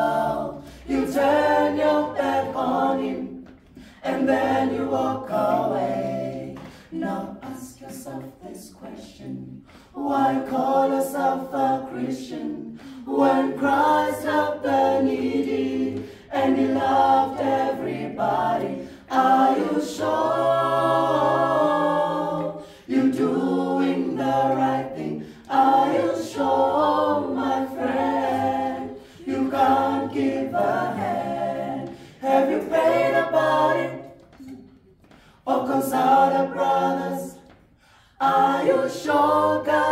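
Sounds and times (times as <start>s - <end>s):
mixed group singing a cappella: 0.0s - 39.9s.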